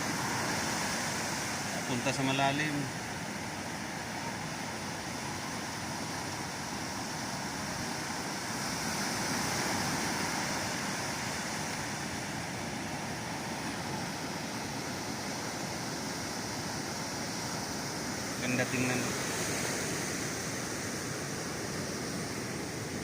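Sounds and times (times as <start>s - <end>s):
breaking waves: 0.0s - 23.0s.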